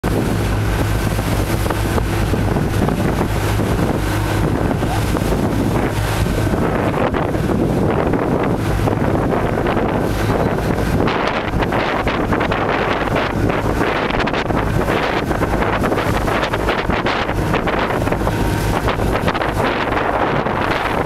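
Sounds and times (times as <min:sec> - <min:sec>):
boat engine drone: 0:00.0 - 0:21.0
water rushing past hull: 0:00.0 - 0:21.0
wind buffeting microphone: 0:00.0 - 0:21.0.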